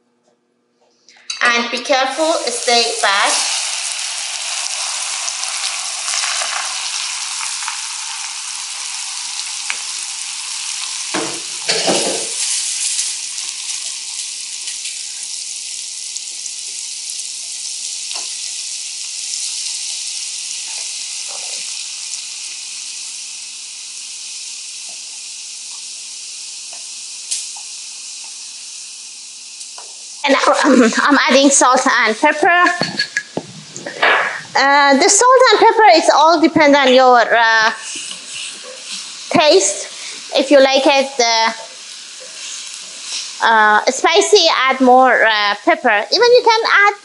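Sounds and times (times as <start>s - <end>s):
hot oil sizzling and bubbling: 1.2s - 47.0s.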